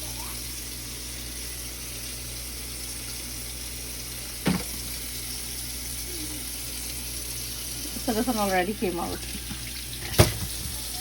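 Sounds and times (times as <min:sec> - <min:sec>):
running water hissing: 0:00.0 - 0:11.0.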